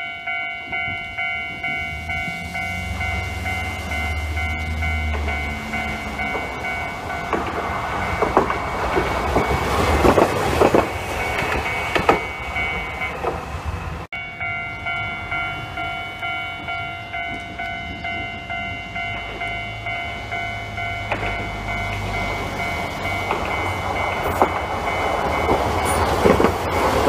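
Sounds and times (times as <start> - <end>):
level crossing warning bell: 0.0 - 27.0
tram wheels clacking over rail joints: 0.0 - 27.0.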